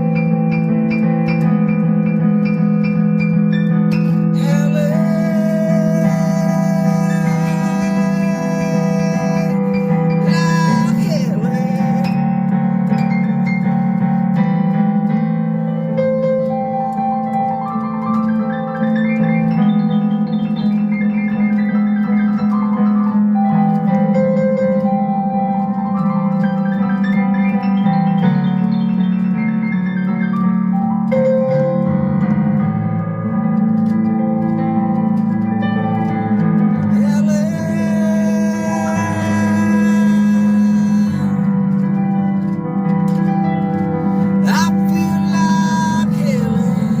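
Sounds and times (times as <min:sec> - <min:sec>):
keyboard melodic runs: 0:00.0 - 0:47.0.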